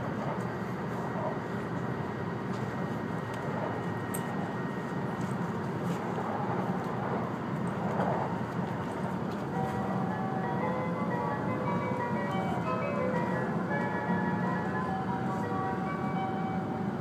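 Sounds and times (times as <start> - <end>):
train running noise in cabin: 0.0 - 17.0.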